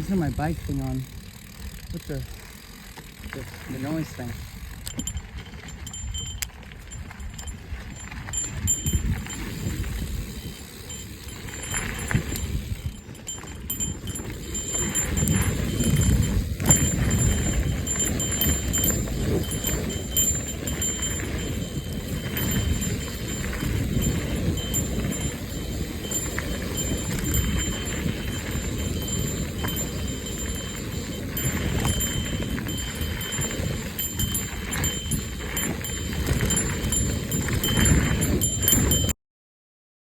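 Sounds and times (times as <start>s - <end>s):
bicycle bell tinkling: 0.0s - 39.2s
wind and tyres rumbling: 0.0s - 39.2s.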